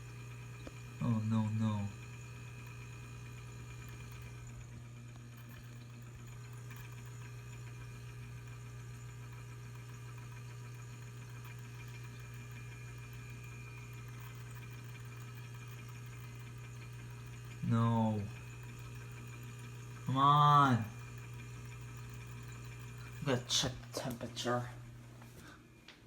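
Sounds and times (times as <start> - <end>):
fan motor whining: 0.0 - 26.0
refrigerator humming: 0.0 - 26.0.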